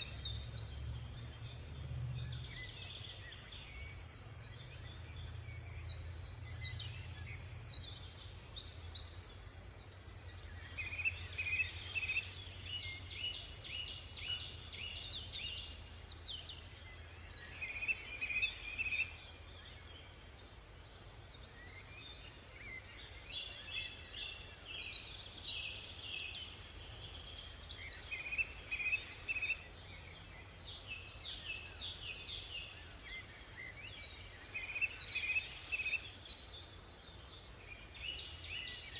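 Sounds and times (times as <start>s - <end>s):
songbirds chirping: 0.0s - 38.9s
steady high hiss: 0.0s - 38.9s.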